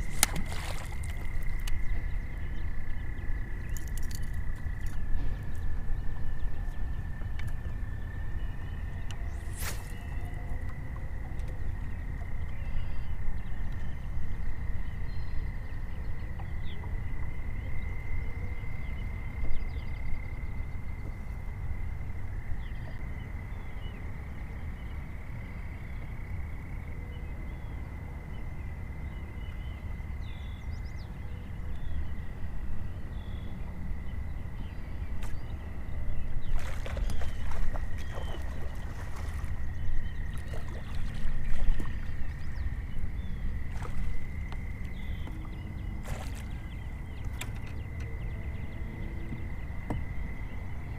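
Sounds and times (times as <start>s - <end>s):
low rumble of wind and water: 0.0s - 50.9s.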